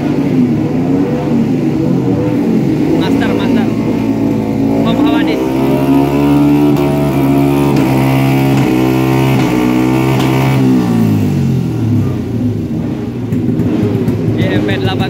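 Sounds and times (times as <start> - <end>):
race motorcycle engine revving: 0.0 - 15.0.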